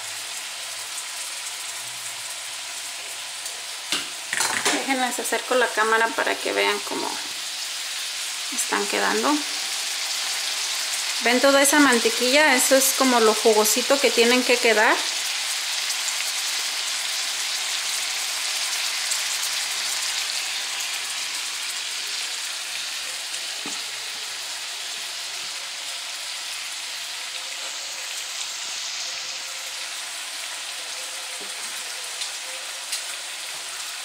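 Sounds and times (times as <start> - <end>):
crab legs sizzling in butter: 0.0 - 34.0.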